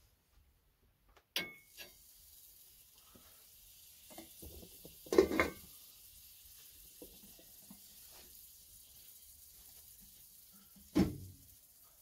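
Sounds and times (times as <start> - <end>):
faint steady sizzle: 0.0 - 12.0.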